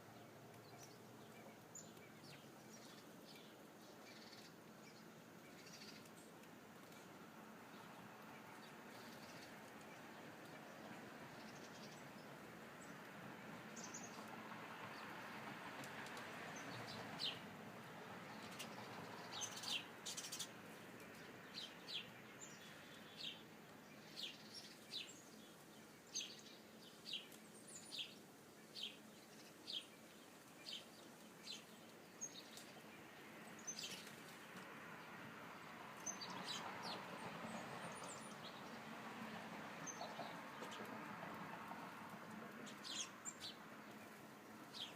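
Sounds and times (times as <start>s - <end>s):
small birds chirping: 0.0s - 41.1s, 41.7s - 44.9s.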